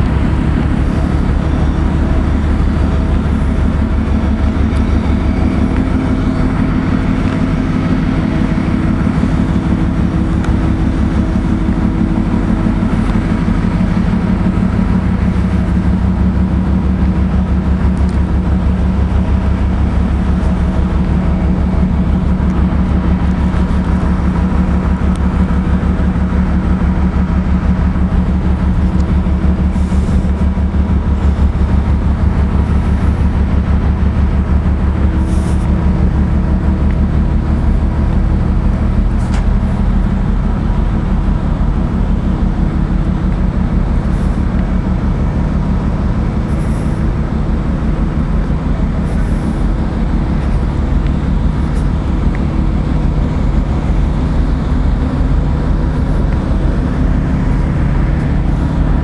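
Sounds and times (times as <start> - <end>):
ship machinery droning: 0.0 - 59.0.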